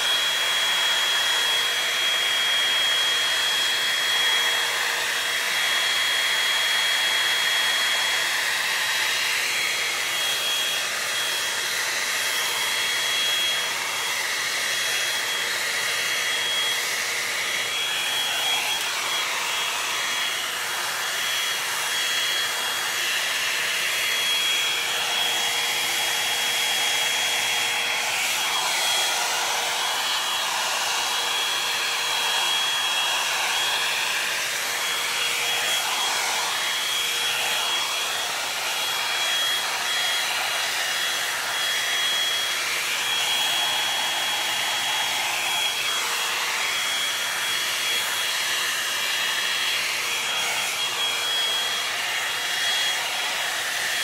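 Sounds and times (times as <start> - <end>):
hot-air brush blowing with whine: 0.0 - 54.0.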